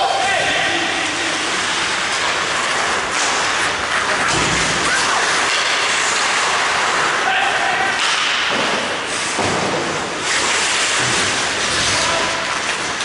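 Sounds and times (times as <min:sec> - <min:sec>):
skates scraping on ice: 0:00.1 - 0:13.0.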